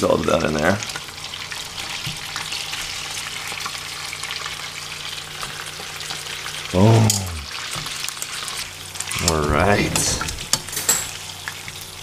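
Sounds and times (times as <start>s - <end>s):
fish sizzling in a pan: 0.0s - 6.8s, 7.5s - 9.4s, 10.4s - 12.0s.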